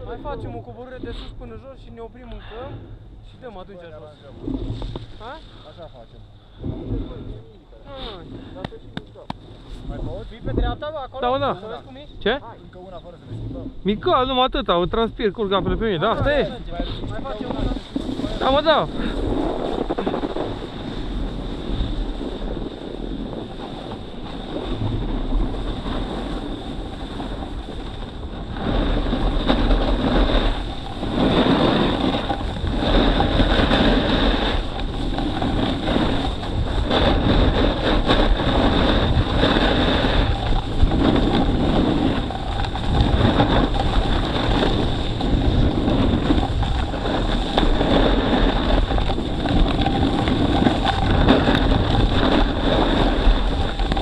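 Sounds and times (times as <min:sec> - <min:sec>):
wind buffeting microphone: 0:00.0 - 0:54.0
snowboard sliding over snow: 0:03.4 - 0:12.0, 0:15.1 - 0:54.0.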